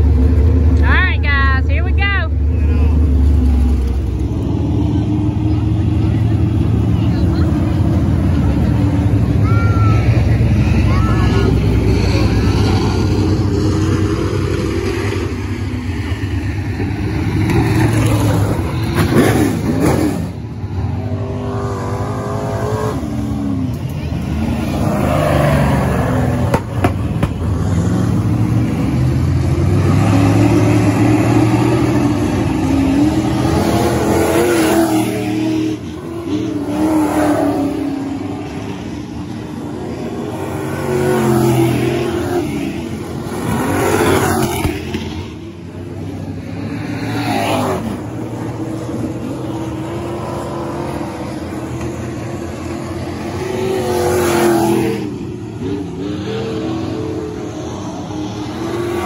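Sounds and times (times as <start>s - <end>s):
race car engines passing by: 0.0s - 59.0s.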